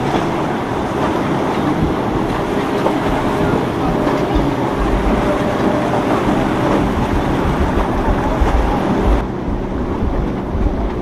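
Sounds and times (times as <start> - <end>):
boat engines running: 0.0 - 11.0
surf crashing: 0.0 - 11.0
wind gusting on microphone: 0.0 - 11.0.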